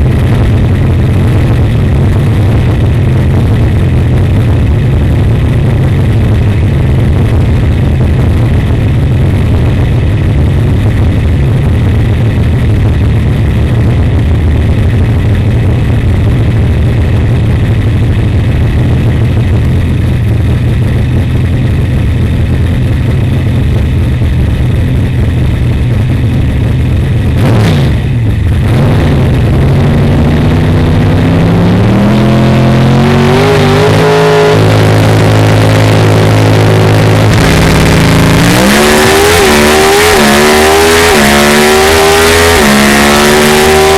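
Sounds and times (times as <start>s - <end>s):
drag car engine revving: 0.0s - 43.9s.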